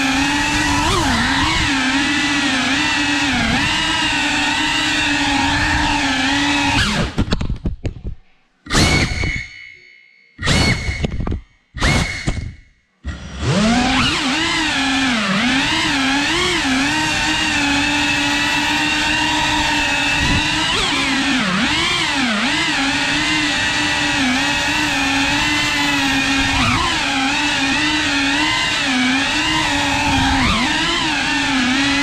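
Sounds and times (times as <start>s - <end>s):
drone motors whining: 0.0s - 7.2s, 8.7s - 32.0s.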